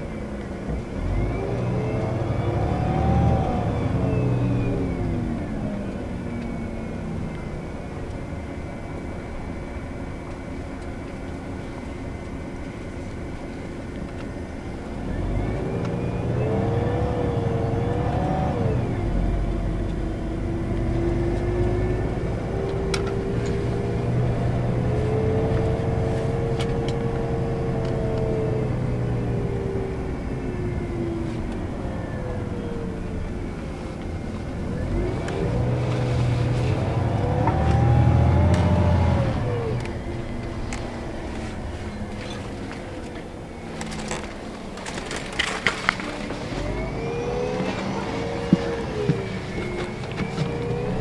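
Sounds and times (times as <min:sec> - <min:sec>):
bus diesel engine drone: 0:00.0 - 0:51.0
gearbox whine: 0:00.0 - 0:51.0.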